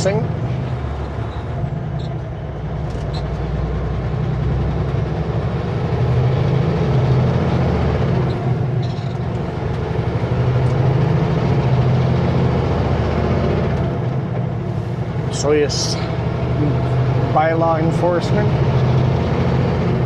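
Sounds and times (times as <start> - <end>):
truck diesel engine driving: 0.0 - 20.0.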